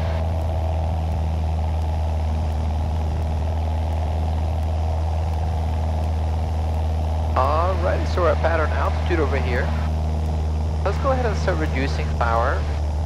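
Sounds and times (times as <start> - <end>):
airplane engine and propeller droning: 0.0 - 13.0.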